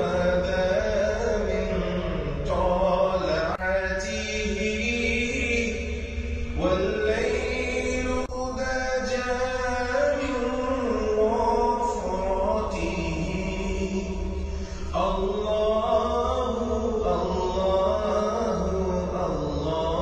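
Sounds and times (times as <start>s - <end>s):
chant-like sung melody: 0.0s - 20.0s.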